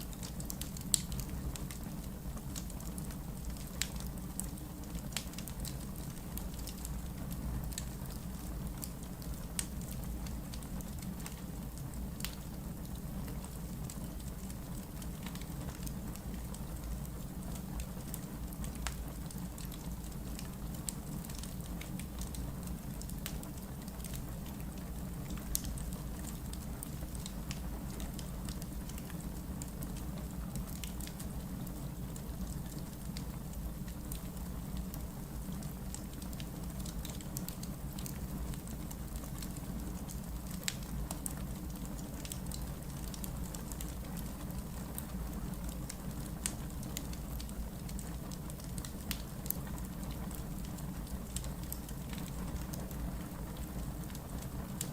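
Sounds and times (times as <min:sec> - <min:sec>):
logs crackling and popping: 0:00.1 - 0:54.9.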